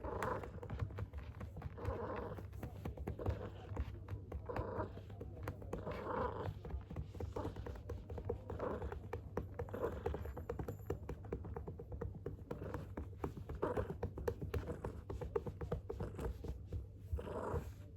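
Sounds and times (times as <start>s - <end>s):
cat purring: 0.0s - 17.9s
hand patting cat: 0.0s - 17.9s.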